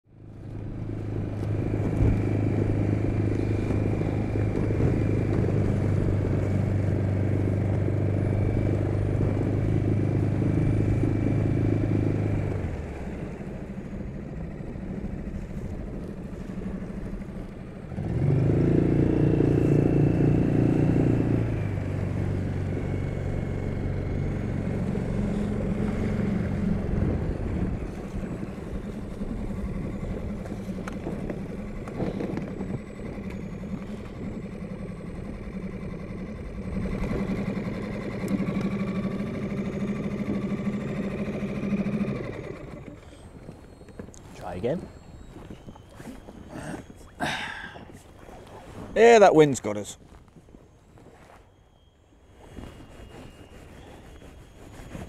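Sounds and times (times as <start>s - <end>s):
outboard motor running: 0.1s - 55.0s.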